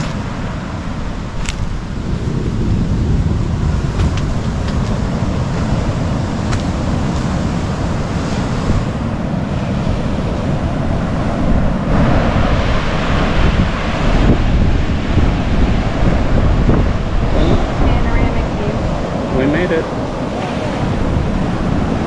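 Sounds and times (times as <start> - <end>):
waves breaking on a beach: 0.0 - 22.0
wind buffeting the microphone: 0.0 - 22.0.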